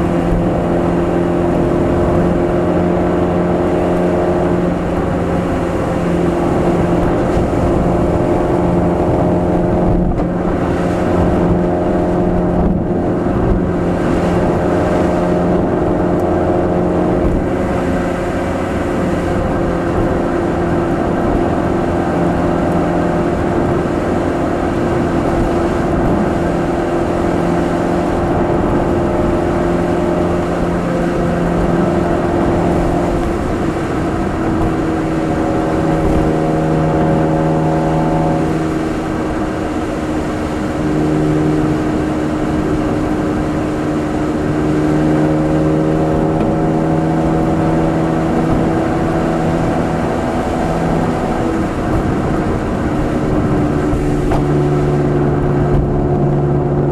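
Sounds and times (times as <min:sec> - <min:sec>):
car engine and exhaust droning: 0:00.0 - 0:56.9.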